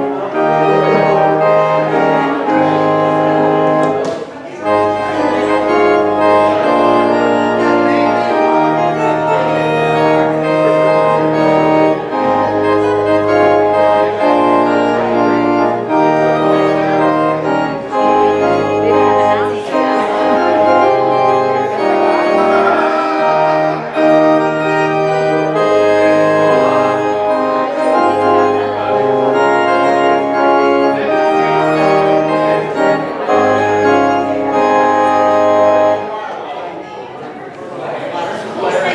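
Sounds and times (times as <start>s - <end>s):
church organ chords: 0.0s - 36.4s.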